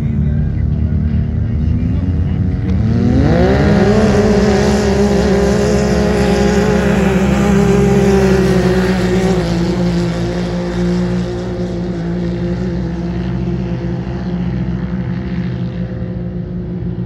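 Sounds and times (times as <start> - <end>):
race car engine revving high: 0.0 - 16.8.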